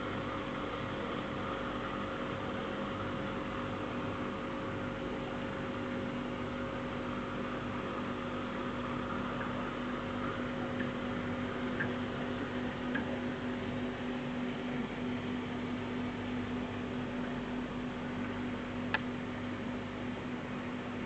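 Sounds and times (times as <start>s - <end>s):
aquarium equipment hum: 0.0s - 21.0s.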